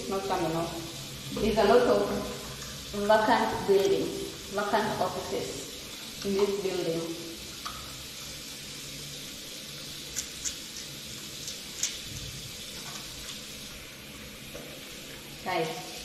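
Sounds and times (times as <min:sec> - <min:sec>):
tap water running into washbasin: 0:00.0 - 0:16.0.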